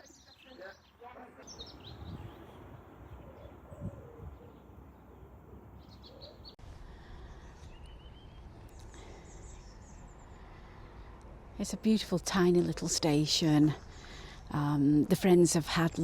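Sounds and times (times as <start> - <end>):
faint birdsong chirps and trill: 0.0 - 16.0
low outdoor background noise: 0.0 - 16.0.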